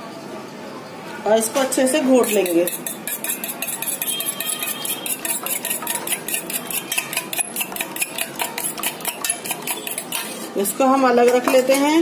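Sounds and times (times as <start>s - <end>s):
fork whisking egg in metal bowl: 2.1s - 11.8s.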